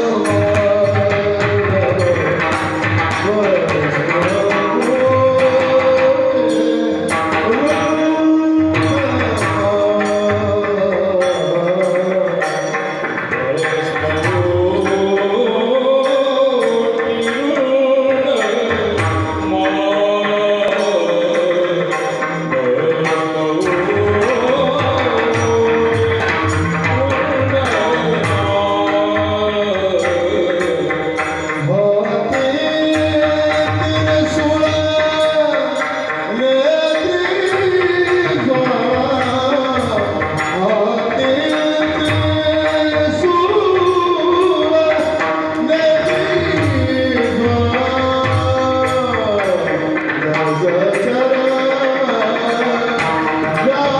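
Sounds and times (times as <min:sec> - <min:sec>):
hand drum and percussion: 0:00.0 - 0:53.9
person singing devotional song: 0:00.0 - 0:53.9.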